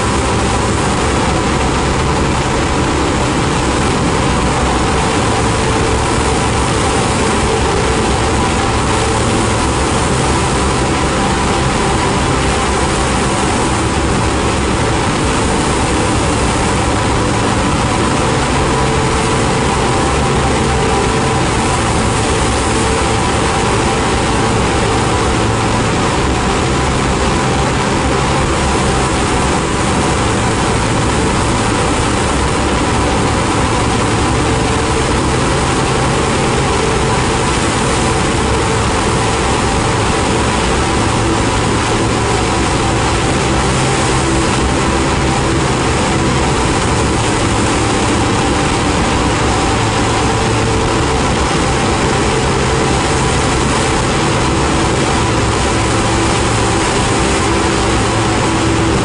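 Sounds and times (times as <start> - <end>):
ambient drone music: 0.0 - 59.0.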